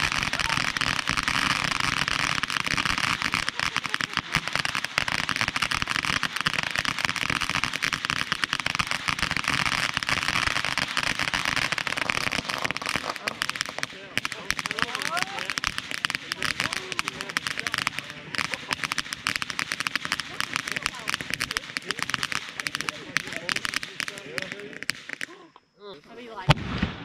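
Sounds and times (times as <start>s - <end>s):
firework crackling: 0.0s - 25.4s, 26.2s - 27.0s.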